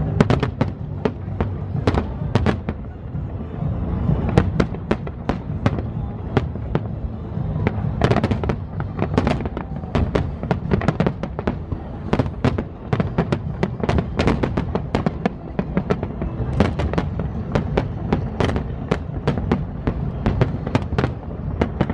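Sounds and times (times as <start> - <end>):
continuous low rumble: 0.0 - 21.9
fireworks bangs and crackles: 0.0 - 21.9.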